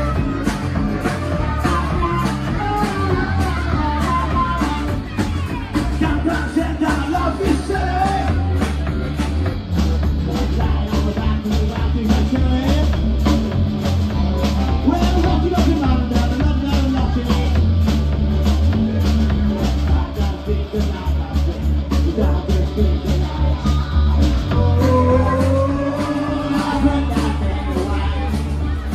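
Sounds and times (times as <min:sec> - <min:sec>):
bass guitar: 0:00.0 - 0:28.9
drum kit beat: 0:00.0 - 0:28.9
electric guitar: 0:00.0 - 0:28.9
man singing: 0:00.0 - 0:28.9.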